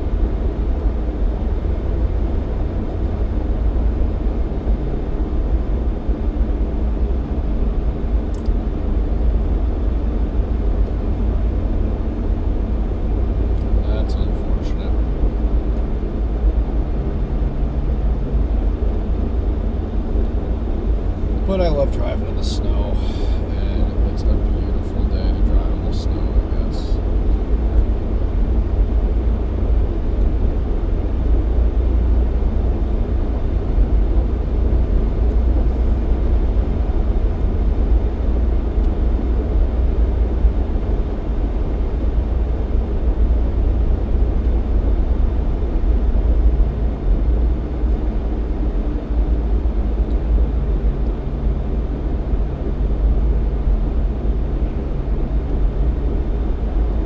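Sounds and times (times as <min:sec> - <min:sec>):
engine and tyres rumbling: 0:00.0 - 0:57.0
low engine tone: 0:00.0 - 0:57.0.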